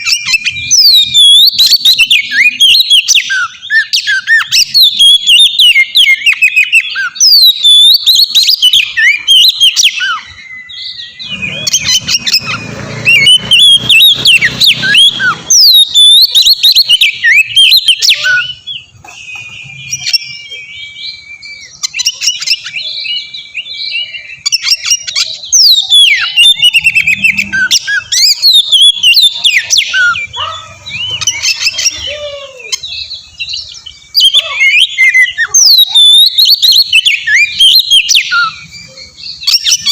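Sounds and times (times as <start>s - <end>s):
bird whistles and chirps: 0.0s - 39.9s.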